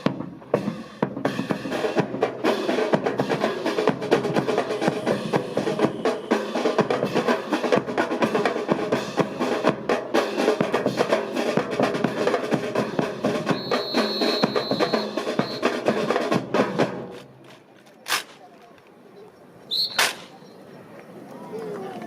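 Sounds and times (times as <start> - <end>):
snare drum rolls: 0.0 - 18.4, 19.8 - 20.4.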